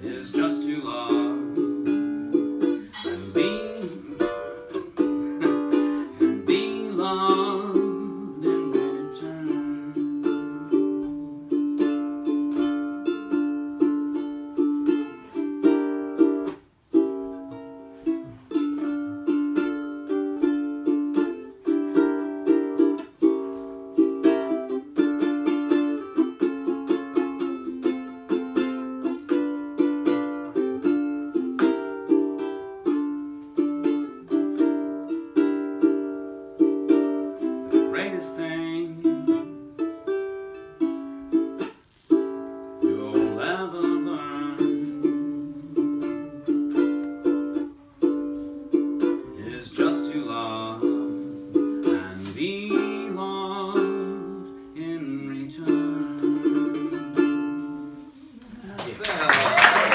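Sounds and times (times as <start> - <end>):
solo ukulele playing: 0.0 - 58.4.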